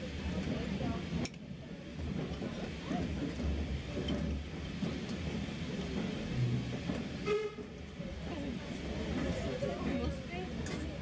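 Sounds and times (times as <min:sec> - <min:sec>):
faint passenger chatter: 0:00.0 - 0:11.0
railway carriage rumbling on track: 0:00.0 - 0:11.0.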